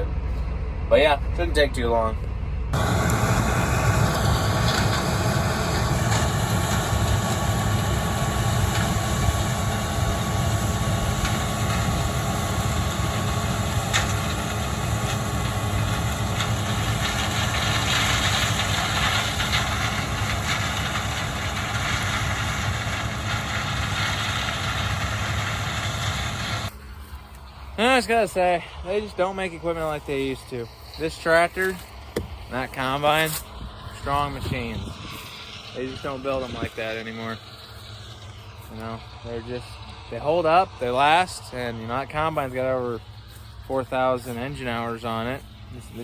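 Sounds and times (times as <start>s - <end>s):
tractor engine droning: 0.0s - 46.0s.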